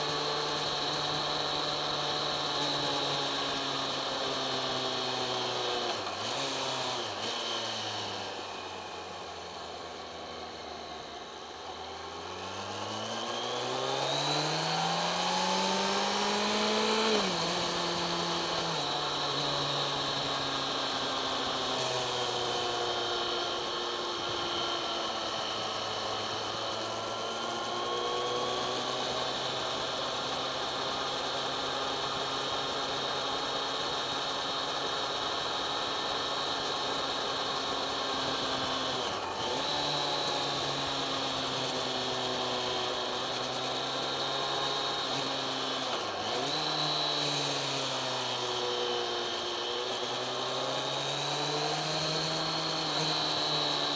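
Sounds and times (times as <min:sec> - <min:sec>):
motorcycle engine revving: 0:00.0 - 0:09.3, 0:11.2 - 0:53.9.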